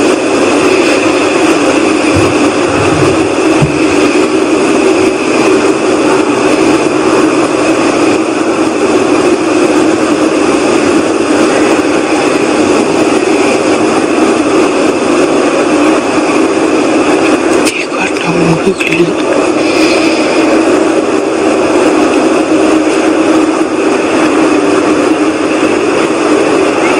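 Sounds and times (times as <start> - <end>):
whooshing rumble from sky: 0.0 - 26.9.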